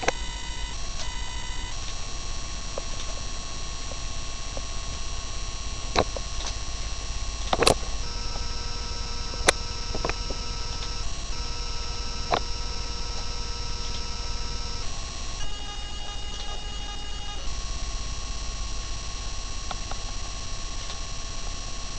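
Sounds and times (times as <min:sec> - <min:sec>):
high whining tones: 0:00.0 - 0:02.8, 0:04.2 - 0:21.2
electrical hum: 0:00.0 - 0:21.9.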